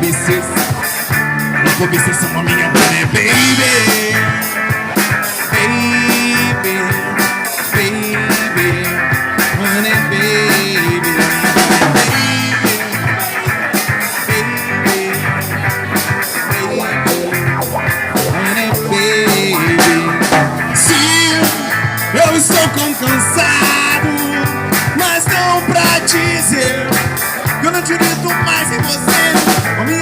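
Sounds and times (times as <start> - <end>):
bending electric guitar melody: 0.0 - 30.0
drum kit beat: 0.0 - 30.0.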